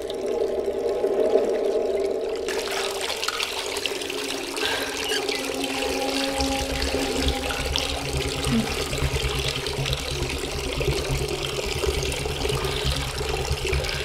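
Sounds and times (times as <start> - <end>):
water running from a tap: 0.0 - 14.0.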